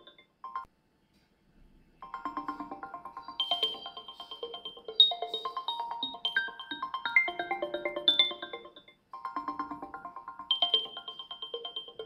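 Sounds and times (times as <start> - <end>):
simple melody of quick notes: 2.0 - 12.0.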